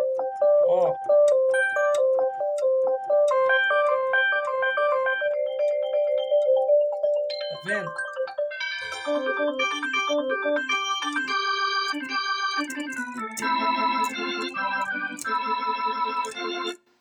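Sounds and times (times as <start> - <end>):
electronic keyboard notes and chords: 0.0 - 16.8.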